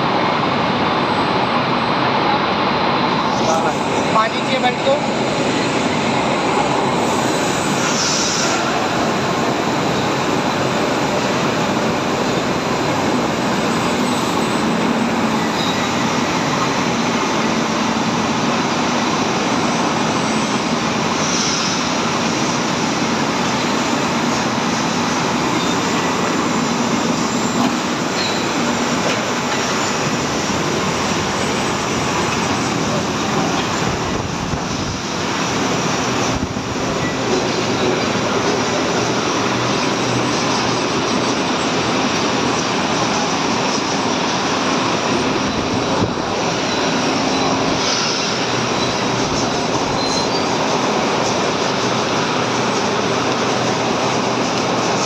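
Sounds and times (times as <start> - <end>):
rolling mill machinery din: 0.0 - 55.0.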